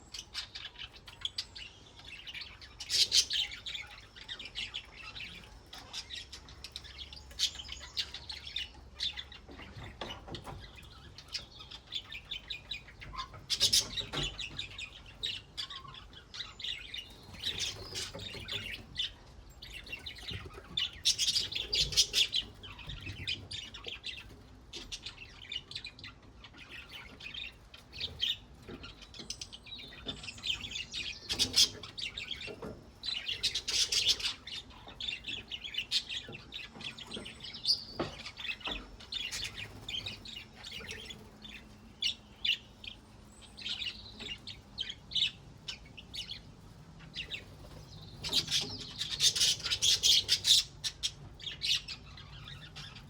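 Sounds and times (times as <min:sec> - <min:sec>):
budgerigars chirping and warbling: 0:00.0 - 0:53.0.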